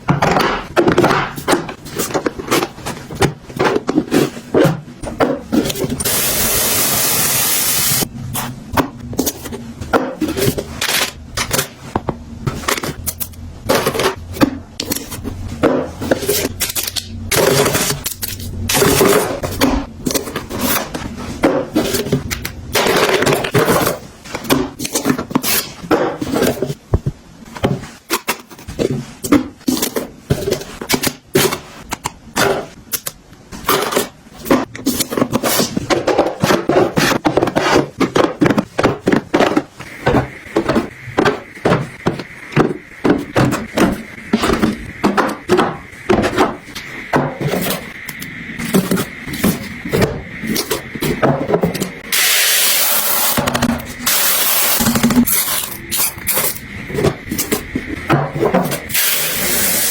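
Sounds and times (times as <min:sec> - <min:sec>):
hard objects knocking and tapping: 0:00.0 - 0:32.8, 0:33.6 - 0:52.0.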